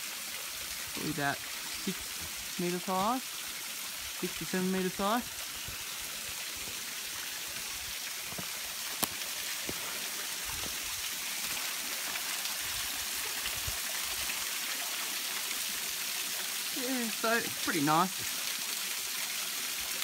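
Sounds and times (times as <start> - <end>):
water trickling down rocks: 0.0 - 20.0.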